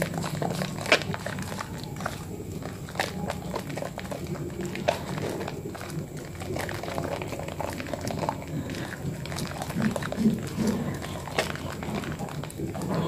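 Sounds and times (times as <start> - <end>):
hands squelching soap lather: 0.0 - 13.0.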